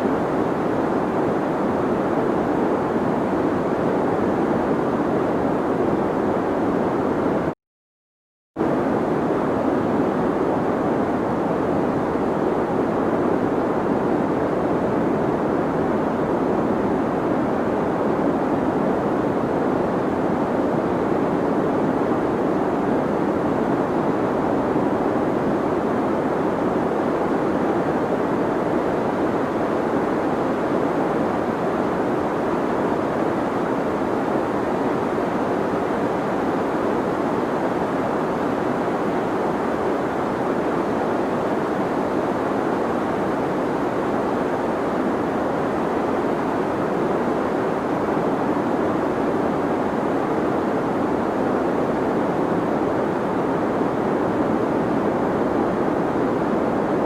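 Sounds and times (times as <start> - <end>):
deep white noise hiss: 0.0 - 7.5, 8.6 - 57.0.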